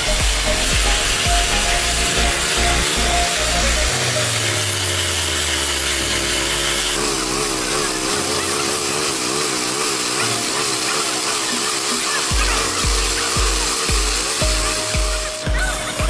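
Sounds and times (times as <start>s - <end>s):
engine hum: 0.0s - 16.0s
grinder wheel rasping on rail: 0.0s - 16.0s.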